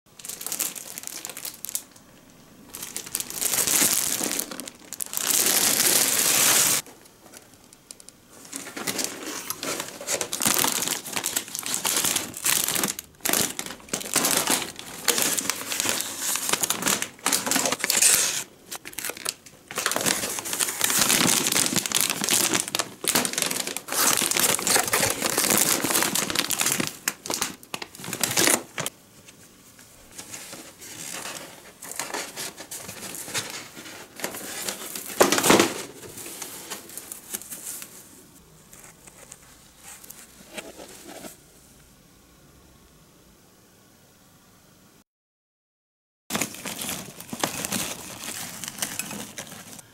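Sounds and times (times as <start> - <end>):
plastic wrapping crinkling: 0.1 - 38.1, 38.7 - 41.4, 46.3 - 49.9.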